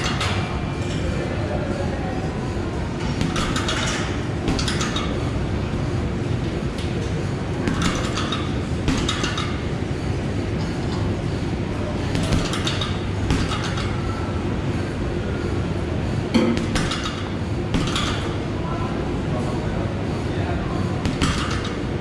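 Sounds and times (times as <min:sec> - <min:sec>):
gym background noise: 0:00.0 - 0:22.0.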